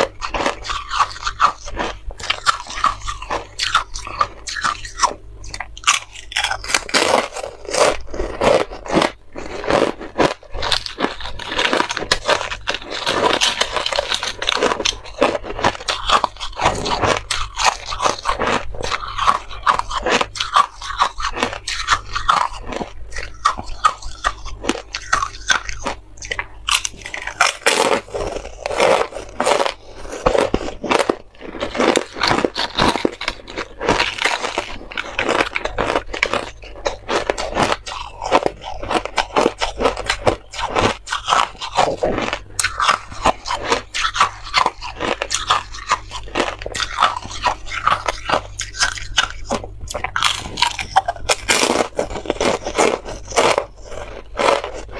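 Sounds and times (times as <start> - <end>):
crunching frozen ice discs: 0.0 - 54.9.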